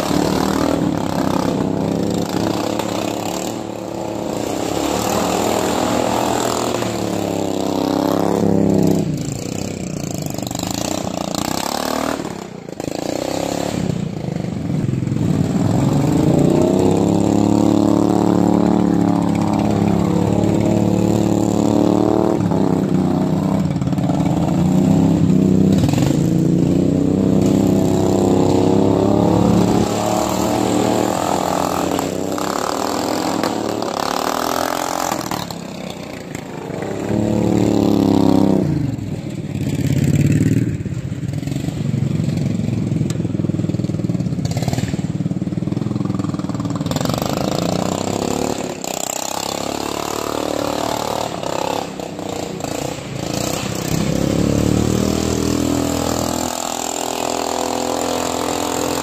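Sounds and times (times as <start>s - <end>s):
lawn mower engine revving: 0.0s - 59.0s.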